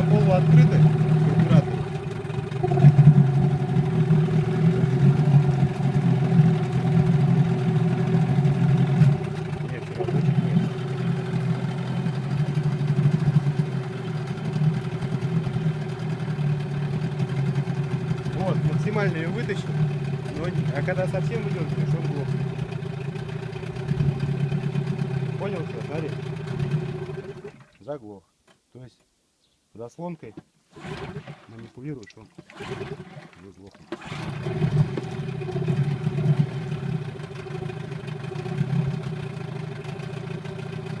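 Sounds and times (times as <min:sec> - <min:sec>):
engine idling unevenly: 0:00.0 - 0:27.6, 0:32.6 - 0:41.0.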